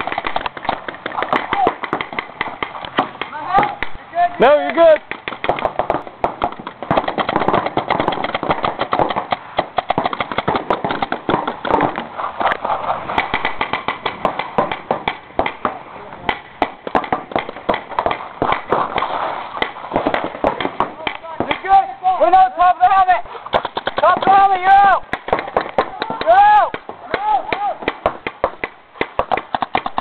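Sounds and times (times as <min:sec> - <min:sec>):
paintball guns firing: 0:00.0 - 0:22.0, 0:23.3 - 0:30.0.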